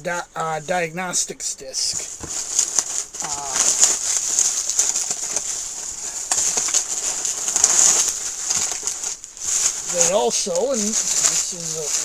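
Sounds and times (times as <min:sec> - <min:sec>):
packaging rustling and crinkling: 0:01.8 - 0:12.0.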